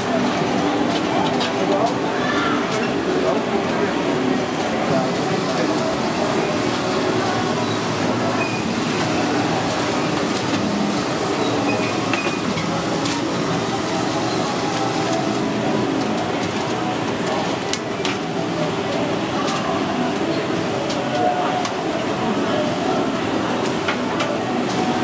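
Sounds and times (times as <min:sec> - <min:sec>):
busy kitchen rumble: 0:00.0 - 0:25.0.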